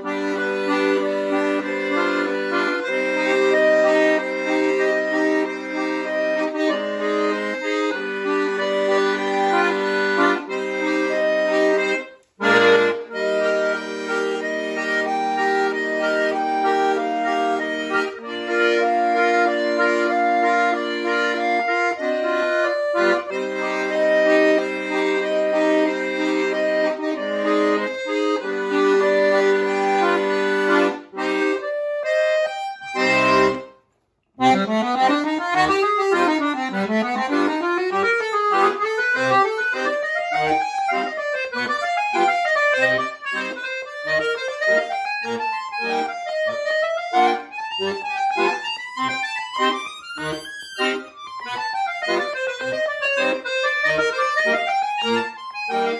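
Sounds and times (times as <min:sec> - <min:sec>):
accordion playing: 0:00.0 - 0:55.9.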